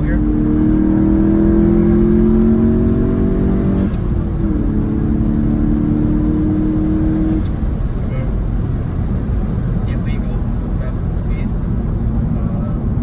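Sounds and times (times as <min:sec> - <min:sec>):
car engine revving: 0:00.0 - 0:13.0
road noise: 0:00.0 - 0:13.0.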